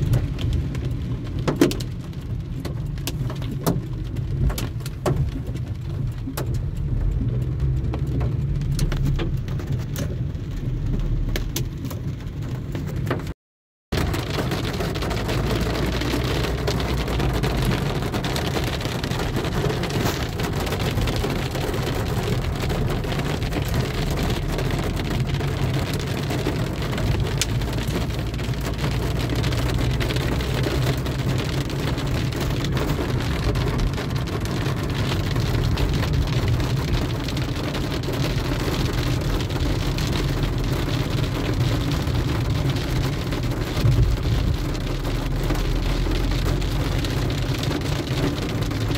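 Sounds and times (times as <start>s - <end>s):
engine and tyres on wet road: 0.0s - 48.9s
rain hitting car roof: 0.0s - 48.9s.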